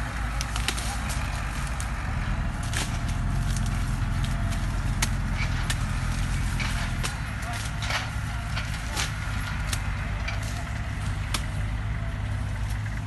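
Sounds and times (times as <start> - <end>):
machete chopping sugarcane: 0.3 - 11.7.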